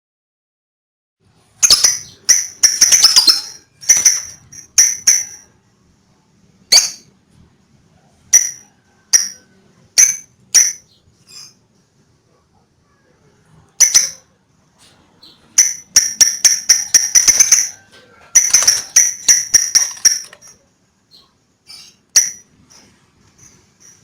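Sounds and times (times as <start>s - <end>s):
bird chirping: 1.6s - 5.5s, 6.6s - 7.1s, 8.3s - 24.0s.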